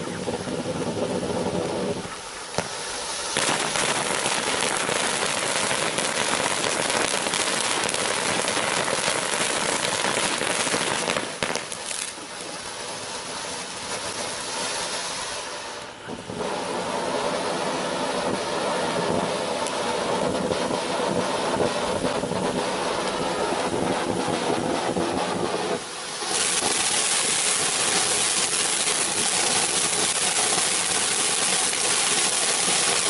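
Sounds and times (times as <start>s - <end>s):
dense crackling spray: 0.0s - 33.0s
firework fountain hissing: 0.0s - 33.0s.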